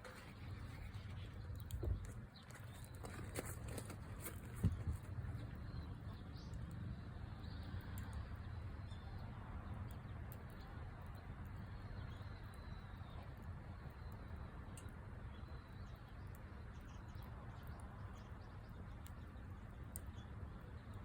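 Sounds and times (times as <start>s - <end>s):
low fire rumble: 0.0s - 21.0s.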